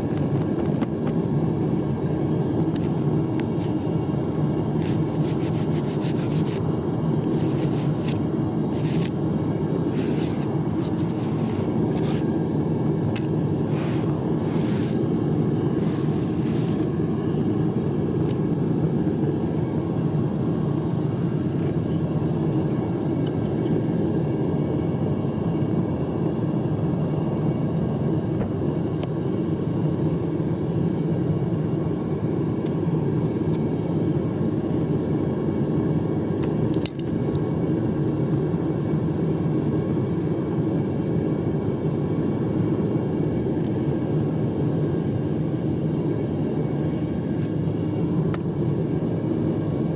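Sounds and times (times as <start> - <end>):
furnace burner rumbling: 0.0 - 49.9.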